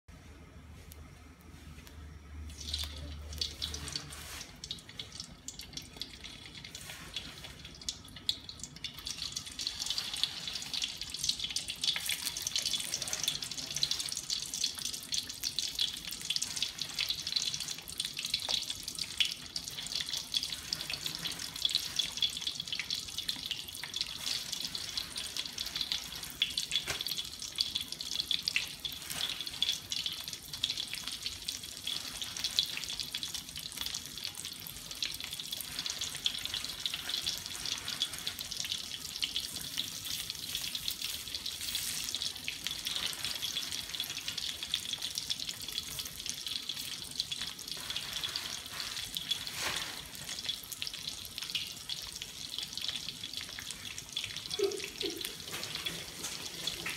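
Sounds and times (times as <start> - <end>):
chicken deep-frying in oil: 1.6 - 56.9.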